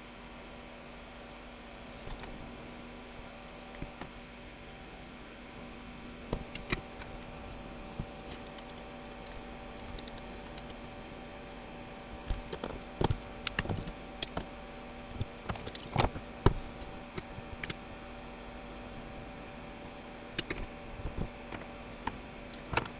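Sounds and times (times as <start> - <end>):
steady electrical hum: 0.0 - 22.9.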